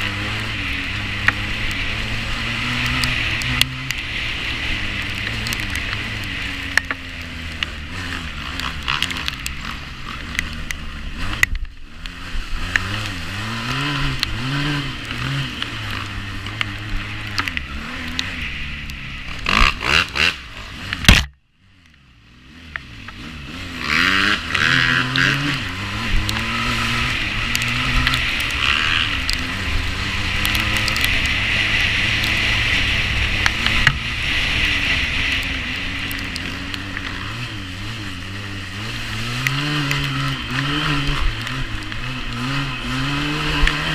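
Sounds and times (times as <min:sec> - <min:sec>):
knocks and rattles from bike: 0:00.0 - 0:21.4, 0:22.6 - 0:43.9
quad bike engine revving: 0:00.0 - 0:21.4, 0:22.4 - 0:43.9.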